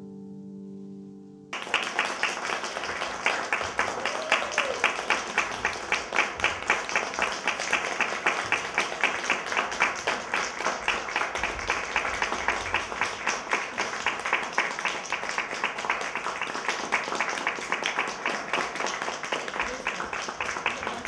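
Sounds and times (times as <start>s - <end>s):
audience rhythmic clapping: 1.5s - 21.0s.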